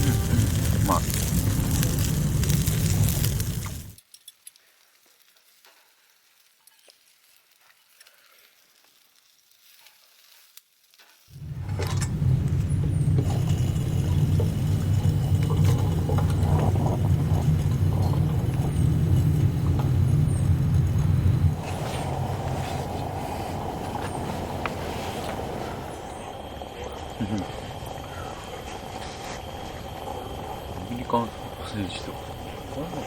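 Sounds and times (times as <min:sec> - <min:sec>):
food frying over flame: 0:00.0 - 0:33.0.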